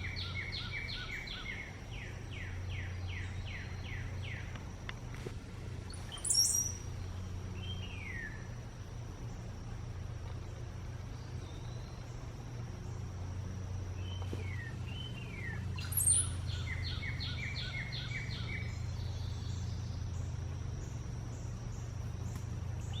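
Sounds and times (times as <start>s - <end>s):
bird song: 0.0s - 23.0s
steady low hum: 0.0s - 23.0s.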